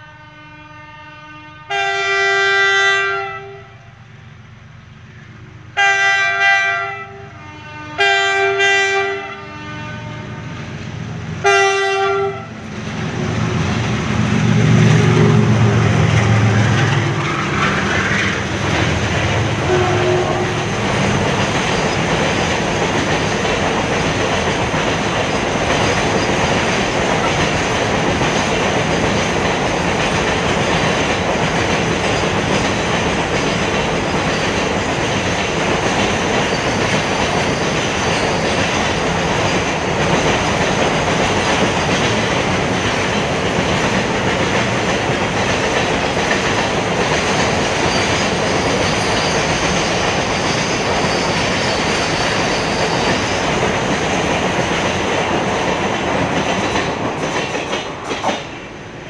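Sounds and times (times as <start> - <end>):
freight train wheels on rails: 1.7 - 59.0.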